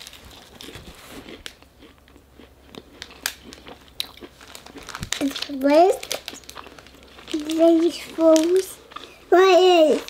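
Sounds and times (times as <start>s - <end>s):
biting and chewing crispy sandwich: 0.0s - 10.0s.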